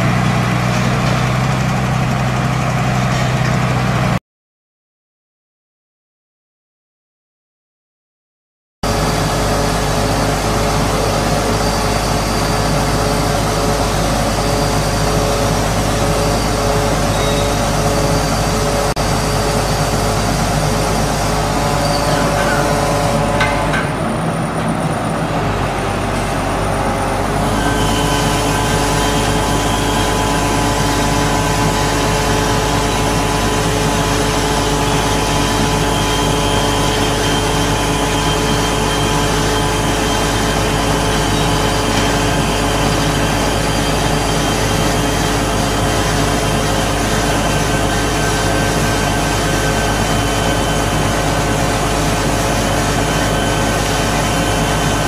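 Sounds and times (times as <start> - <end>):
diesel engine running: 0.0 - 4.2, 8.8 - 55.0
high whine: 8.8 - 55.0.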